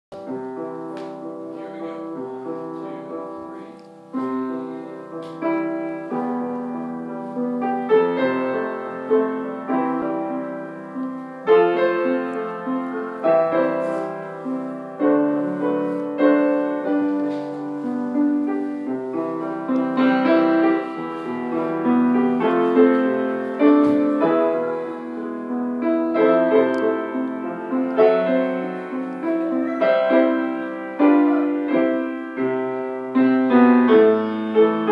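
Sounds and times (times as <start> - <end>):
piano playing: 0.1 - 34.9.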